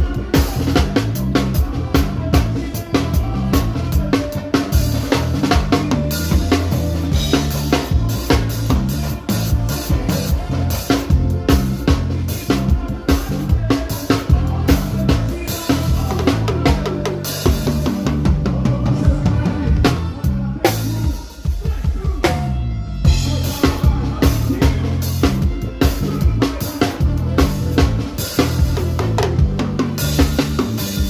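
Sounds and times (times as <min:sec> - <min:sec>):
bass line: 0:00.0 - 0:31.0
drum kit kick and snare: 0:00.0 - 0:31.0
live band playing instrumental: 0:00.0 - 0:31.0.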